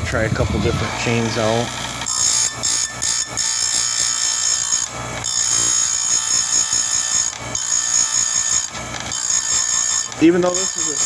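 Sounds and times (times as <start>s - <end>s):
chain grinder whining: 0.0s - 11.0s.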